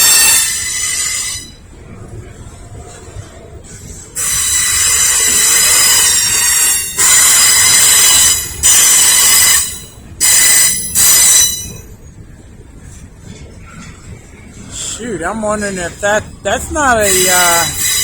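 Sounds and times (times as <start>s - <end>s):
freight cars rumbling: 0.0s - 18.0s
train wheels squealing on rails: 0.0s - 18.0s.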